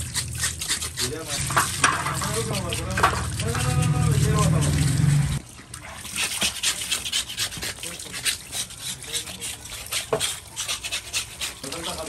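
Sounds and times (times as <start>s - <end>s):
knife scraping meat: 0.0s - 4.9s, 6.0s - 12.0s.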